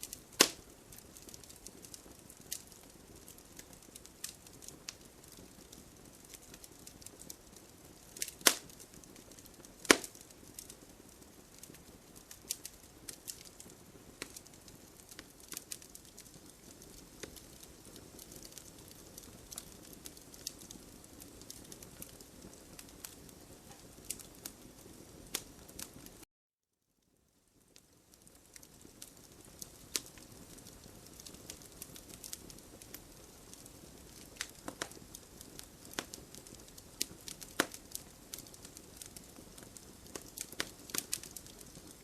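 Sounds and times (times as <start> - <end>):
wood fire crackling in fireplace: 0.0 - 26.3, 27.0 - 42.0.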